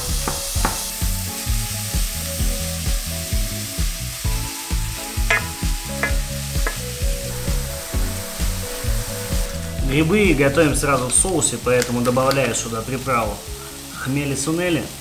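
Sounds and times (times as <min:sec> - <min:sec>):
background music with beat: 0:00.0 - 0:13.9
vegetables sizzling in frying pan: 0:00.0 - 0:15.0.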